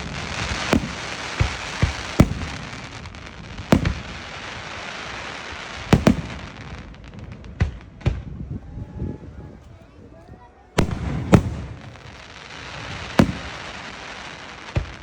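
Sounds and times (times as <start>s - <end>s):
firework crackle: 0.0s - 8.0s, 10.8s - 15.0s
firework bangs: 0.0s - 8.5s, 10.8s - 15.0s.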